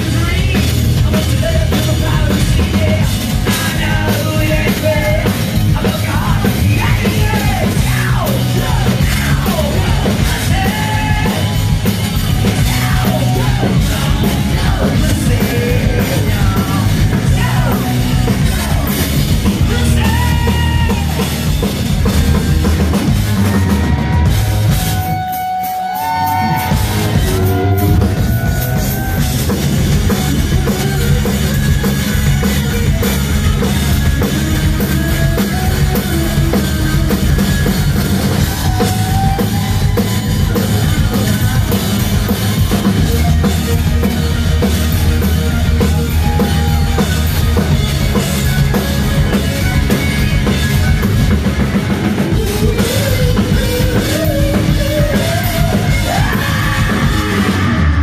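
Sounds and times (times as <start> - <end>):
drum kit pounding: 0.0 - 58.0
hard rock band playing: 0.0 - 58.0
guitar melody: 8.5 - 58.0.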